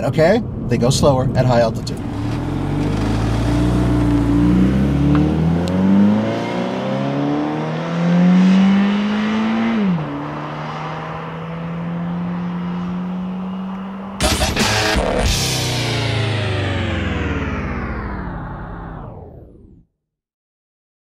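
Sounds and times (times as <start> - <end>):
car engine accelerating hard: 0.5 - 19.8.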